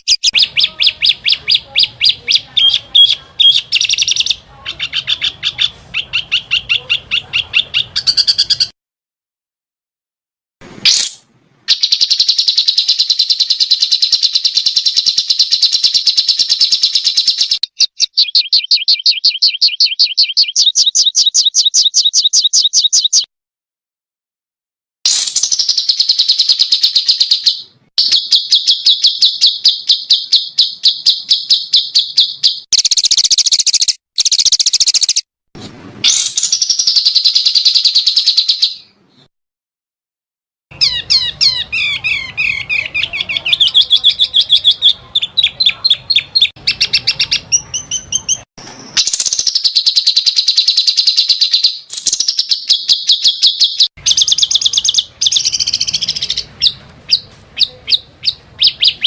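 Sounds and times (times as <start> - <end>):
bird twittering: 0.0 - 8.7, 10.9 - 23.3, 25.1 - 35.3, 40.7 - 59.0
songbirds high-pitched trills: 0.0 - 8.7, 11.7 - 23.3, 25.1 - 35.3, 40.7 - 59.0.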